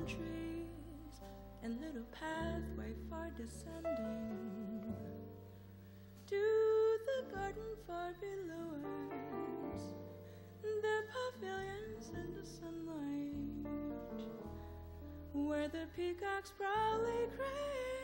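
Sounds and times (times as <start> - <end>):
double bass notes: 0.0 - 18.0
jazz ballad melody with vibrato: 0.0 - 18.0
piano chords: 0.0 - 18.0.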